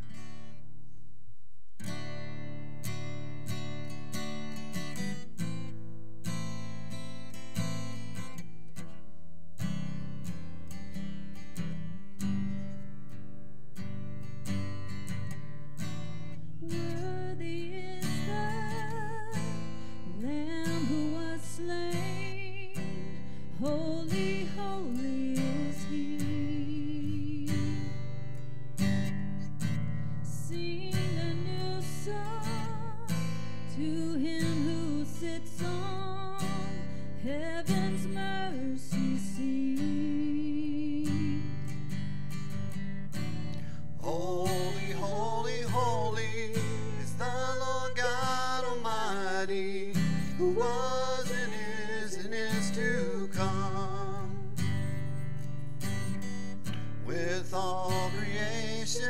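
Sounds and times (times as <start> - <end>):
strummed acoustic guitar: 0.0 - 0.7, 1.8 - 59.0.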